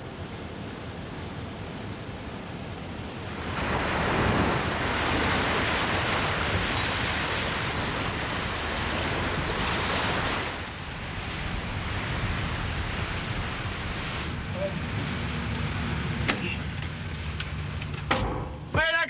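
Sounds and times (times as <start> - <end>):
sea water rushing: 0.0 - 19.0
wind: 0.0 - 19.0.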